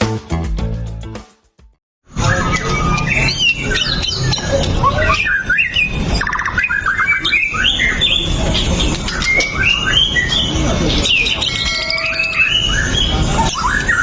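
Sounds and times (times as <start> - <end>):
songbird singing trills and whistles: 2.2 - 14.0.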